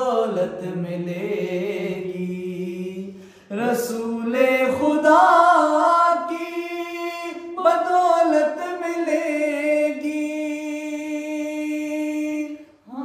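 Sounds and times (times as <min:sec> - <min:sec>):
men singing unaccompanied: 0:00.0 - 0:13.0.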